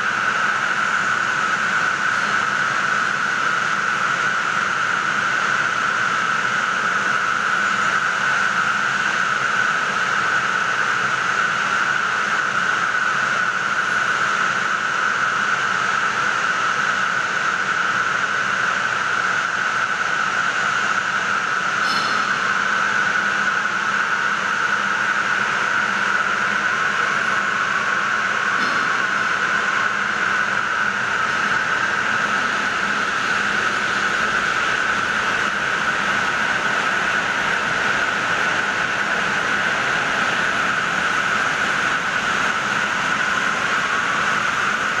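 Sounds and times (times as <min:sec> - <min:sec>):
loom machine whirring and whining: 0:00.0 - 0:45.0.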